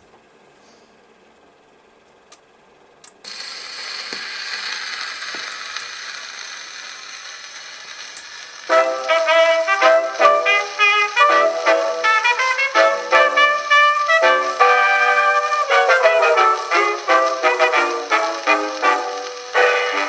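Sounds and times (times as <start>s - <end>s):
record surface hiss and crackle: 0.0s - 20.0s
jazz brass on phonograph: 3.4s - 20.0s.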